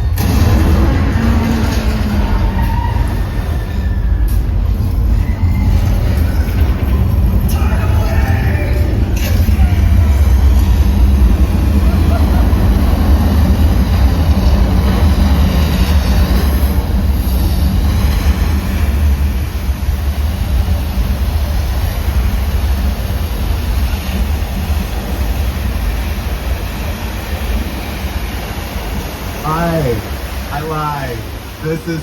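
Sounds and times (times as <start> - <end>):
deep earthquake rumble: 0.0 - 29.5
rushing noise: 0.0 - 32.0.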